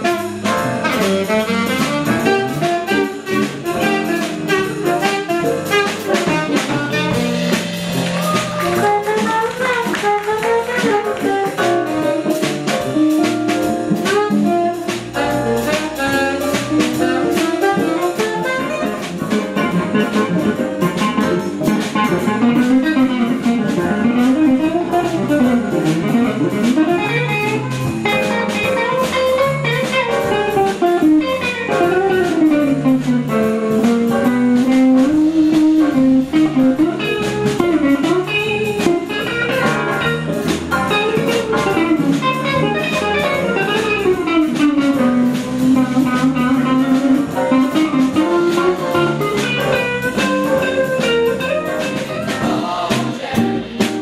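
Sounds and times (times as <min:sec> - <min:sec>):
saxophone solo: 0:00.0 - 0:52.2
bass: 0:00.0 - 0:54.0
drum kit: 0:00.0 - 0:54.0
electric guitar: 0:00.0 - 0:54.0.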